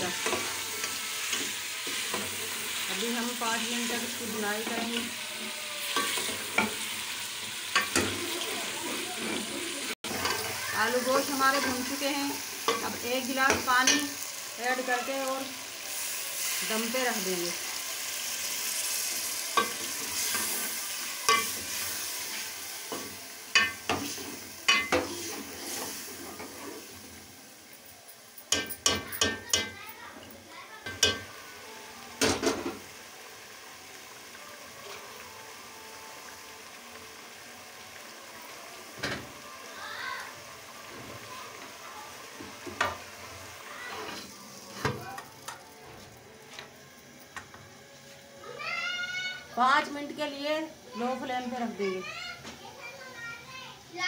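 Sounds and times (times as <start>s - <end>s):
curry sizzling in pot: 0.0s - 54.0s.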